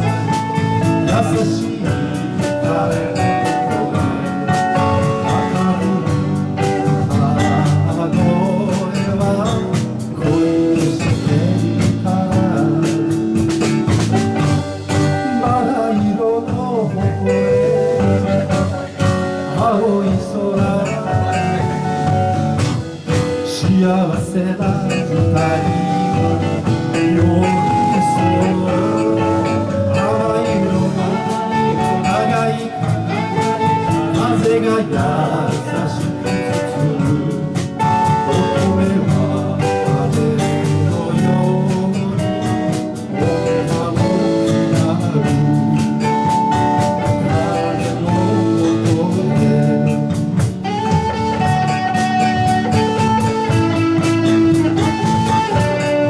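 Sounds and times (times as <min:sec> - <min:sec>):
live band playing pop ballad: 0:00.0 - 0:56.0
man singing: 0:00.0 - 0:56.0.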